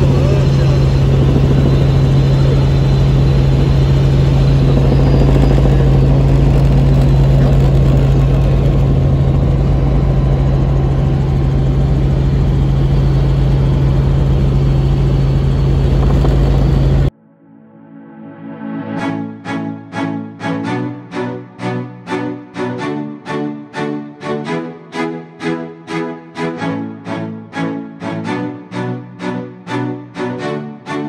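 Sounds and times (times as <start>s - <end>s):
helicopter rotor and engine drone: 0.0s - 17.1s, 19.2s - 31.0s.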